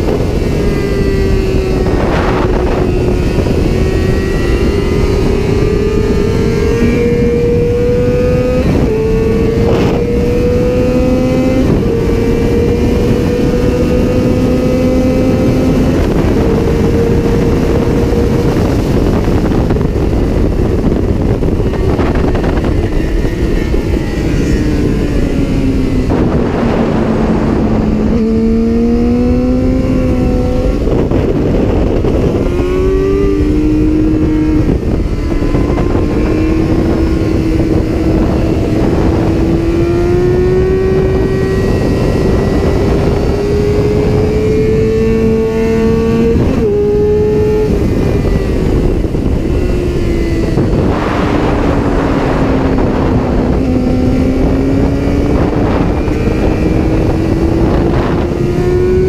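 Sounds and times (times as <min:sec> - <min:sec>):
motorcycle engine accelerating: 0:00.0 - 0:59.0
wind rush: 0:00.0 - 0:59.0.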